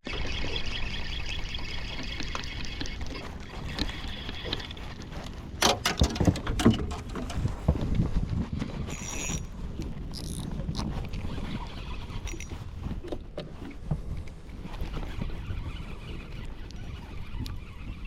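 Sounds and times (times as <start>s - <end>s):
water moving around a boat: 0.0s - 18.0s
wind: 0.0s - 18.0s.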